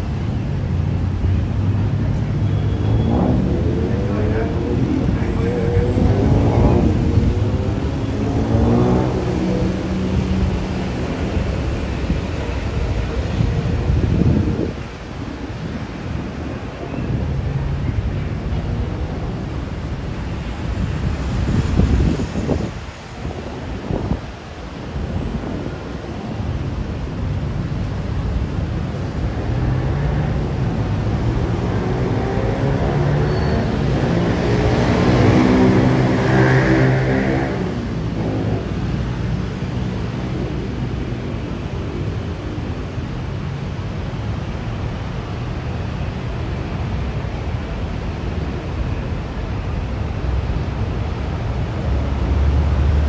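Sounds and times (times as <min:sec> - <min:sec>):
city traffic rumbling: 0:00.0 - 0:53.0.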